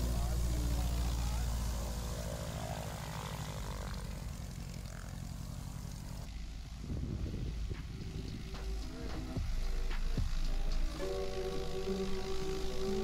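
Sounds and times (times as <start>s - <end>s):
aircraft engine and propeller: 0.0s - 13.0s.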